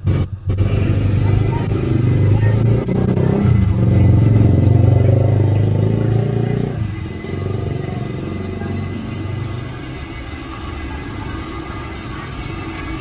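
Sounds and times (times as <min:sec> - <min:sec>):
motorcycle engine running: 0:00.0 - 0:13.0
street noise: 0:00.0 - 0:13.0.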